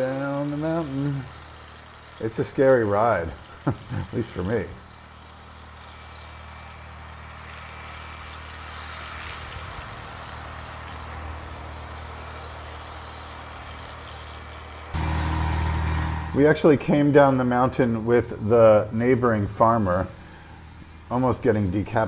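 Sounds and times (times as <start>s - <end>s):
hiss of travel noise: 0.0s - 22.0s
monorail motor humming: 0.0s - 22.0s.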